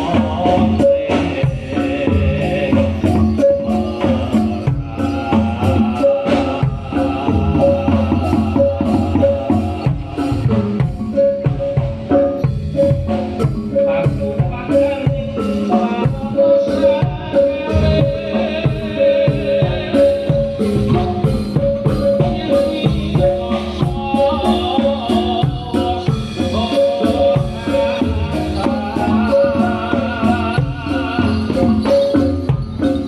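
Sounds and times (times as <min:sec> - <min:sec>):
drum strokes: 0:00.0 - 0:33.0
pitched metal notes: 0:00.0 - 0:33.0.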